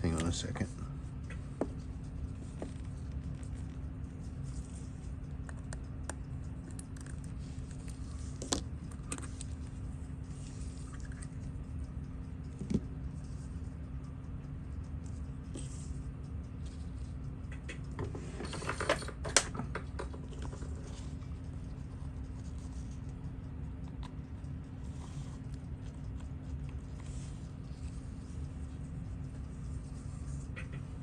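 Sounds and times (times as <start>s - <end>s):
low hum: 0.0s - 31.0s
watchmaking tools clicking and scratching: 0.0s - 31.0s.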